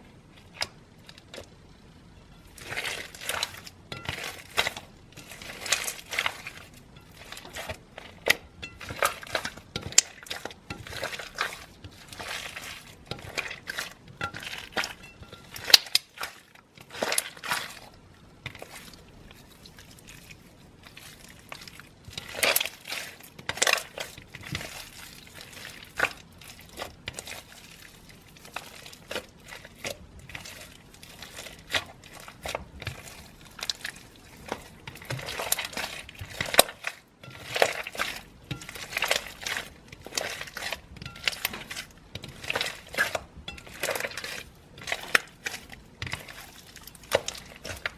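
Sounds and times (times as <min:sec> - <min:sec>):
slime crackling and popping: 0:02.5 - 0:47.9.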